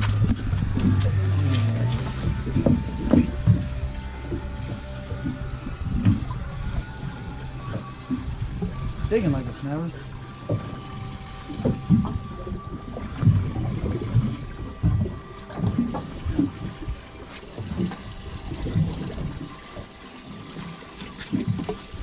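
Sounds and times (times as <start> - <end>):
faint steady hum: 0.0 - 22.0
water slapping against boat hull: 0.0 - 22.0.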